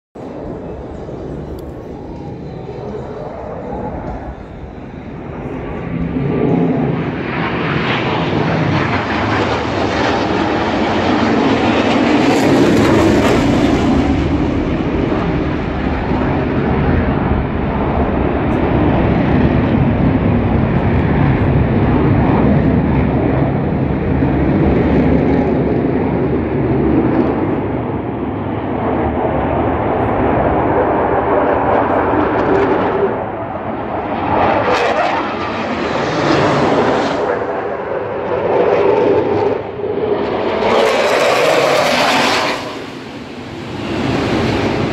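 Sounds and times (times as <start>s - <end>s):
jet engine roar: 0.2s - 44.9s.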